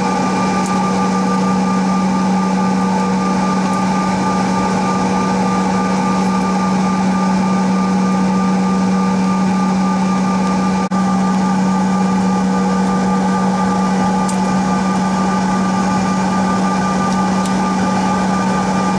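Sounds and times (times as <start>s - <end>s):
low engine hum: 0.0s - 18.9s.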